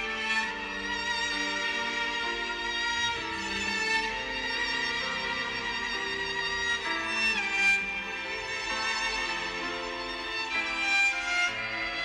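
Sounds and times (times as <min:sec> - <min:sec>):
slow violin melody: 0:00.0 - 0:12.0.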